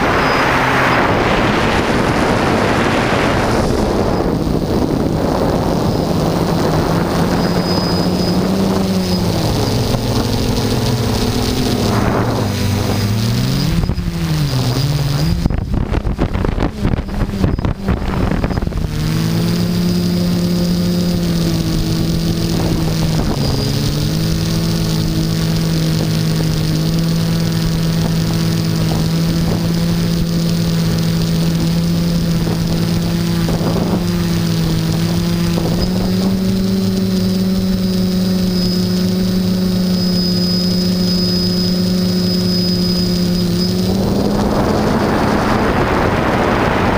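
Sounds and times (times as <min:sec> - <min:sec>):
drone motors humming: 0:00.0 - 0:46.9
wind buffeting microphone: 0:00.0 - 0:46.9.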